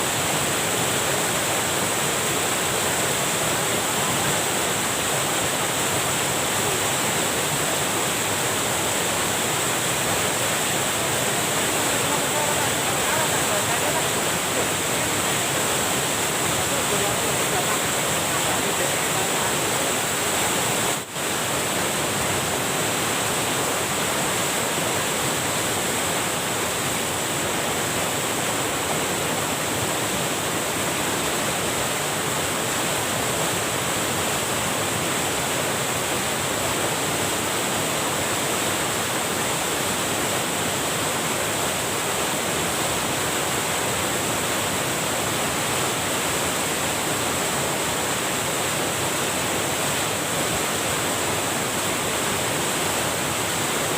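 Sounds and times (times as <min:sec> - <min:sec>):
water rushing over weir: 0:00.0 - 0:53.9.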